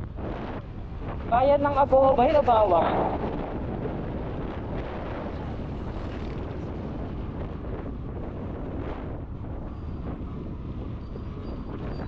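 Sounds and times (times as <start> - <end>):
scooter engine and road noise: 0.0 - 12.0
wind rushing over microphone: 0.0 - 12.0.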